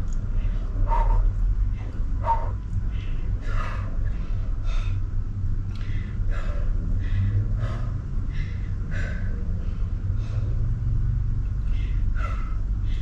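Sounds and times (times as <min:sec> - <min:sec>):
low steady rumble: 0:00.0 - 0:13.0
woman breathing hard: 0:00.2 - 0:13.0.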